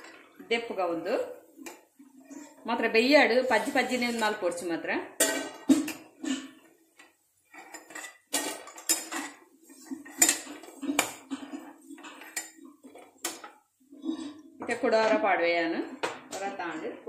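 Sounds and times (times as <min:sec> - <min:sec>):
oil sizzling: 0:00.0 - 0:15.8.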